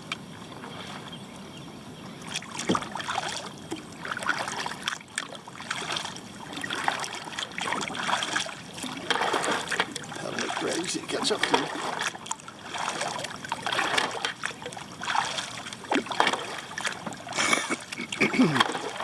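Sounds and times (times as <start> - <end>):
paddle strokes splashing in water: 0.0 - 1.2, 2.1 - 19.0.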